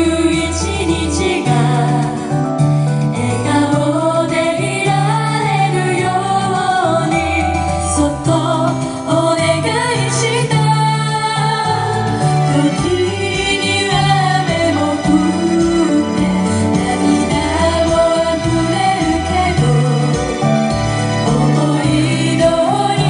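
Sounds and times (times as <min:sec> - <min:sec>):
instrumental backing with bass: 0:00.0 - 0:23.0
women singing pop song: 0:00.0 - 0:23.0.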